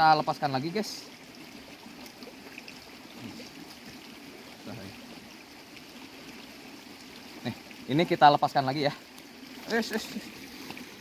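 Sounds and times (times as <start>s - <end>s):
stream trickling over stones: 0.0s - 11.0s.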